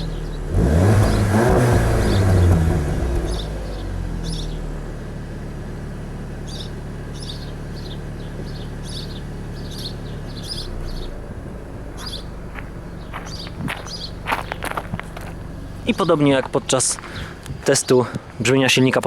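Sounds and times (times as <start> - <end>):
birds chirping: 0.0 - 4.9, 6.2 - 19.0
car engine idling: 0.0 - 19.0.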